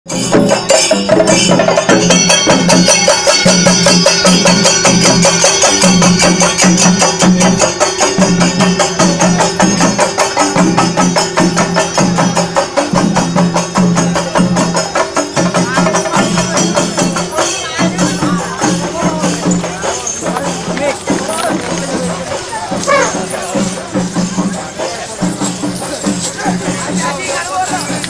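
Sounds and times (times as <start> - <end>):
drums beaten in fast strokes: 0.1 - 28.0
hand cymbals ringing: 0.1 - 28.0.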